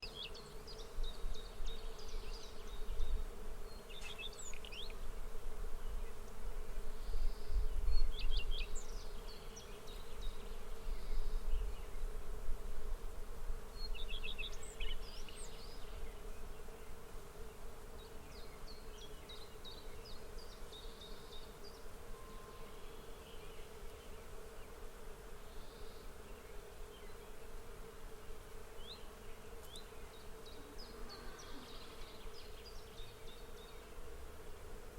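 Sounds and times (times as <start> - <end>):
insects buzzing: 0.0 - 34.9.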